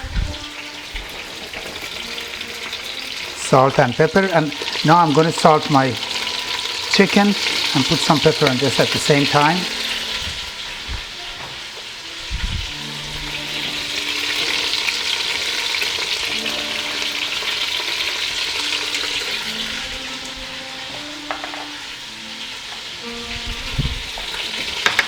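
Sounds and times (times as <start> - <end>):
chicken sizzling in oil: 0.0 - 25.0.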